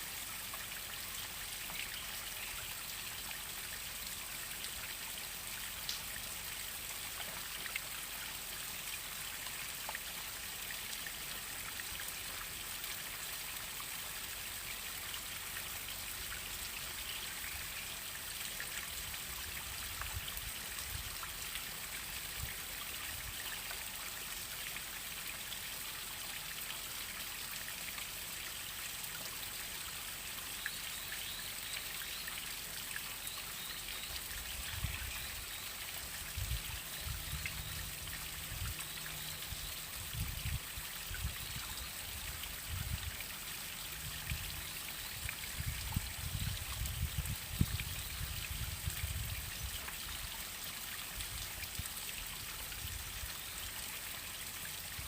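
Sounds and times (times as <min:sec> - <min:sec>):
water drips and splashes: 0:00.0 - 0:55.0.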